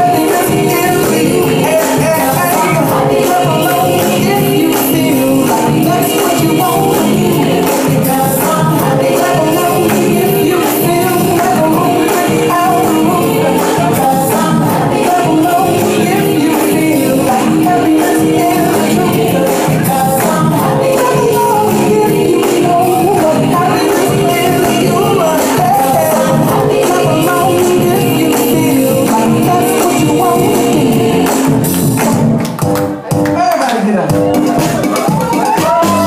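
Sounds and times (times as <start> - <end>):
dance music with steady beat: 0.0 - 36.0.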